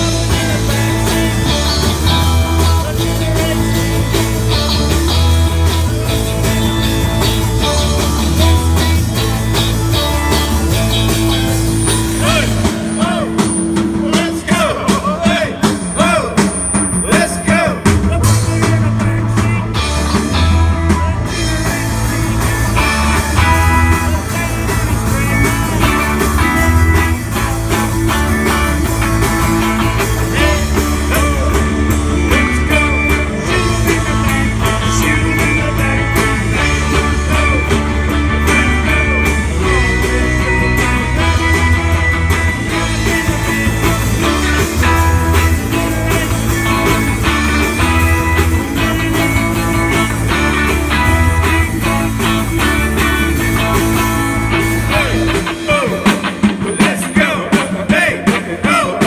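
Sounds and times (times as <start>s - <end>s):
person singing: 0.0s - 10.6s, 11.9s - 42.0s, 42.8s - 59.0s
heavy bass line: 0.0s - 59.0s
punk rock band playing: 0.0s - 59.0s.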